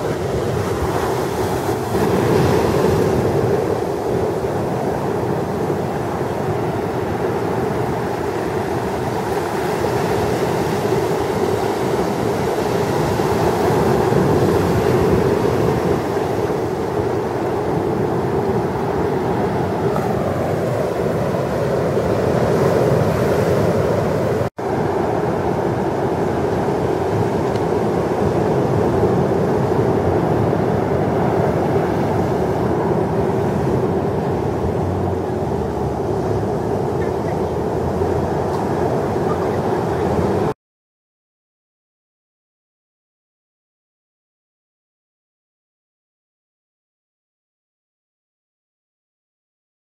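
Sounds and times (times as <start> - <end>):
heavy ocean surf: 0.0 - 40.6.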